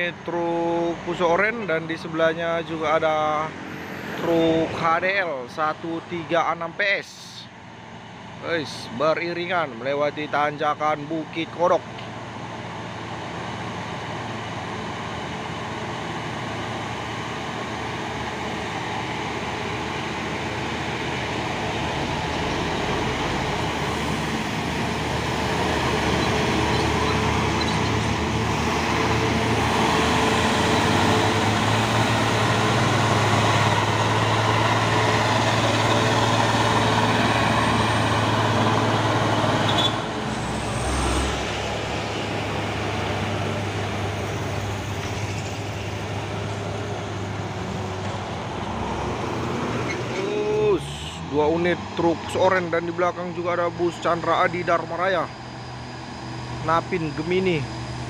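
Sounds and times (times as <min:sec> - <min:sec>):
truck diesel engines climbing: 0:00.0 - 0:58.0.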